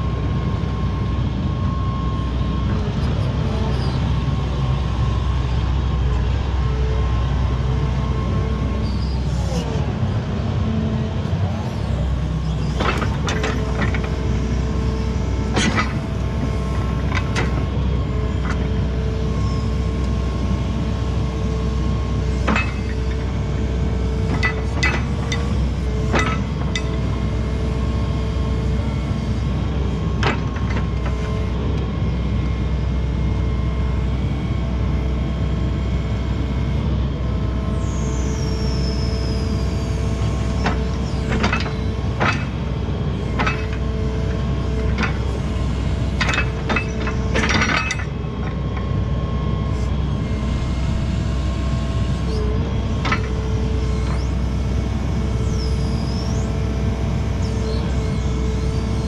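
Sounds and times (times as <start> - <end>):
excavator diesel engine running: 0.0 - 59.0
hydraulic whine: 0.0 - 59.0.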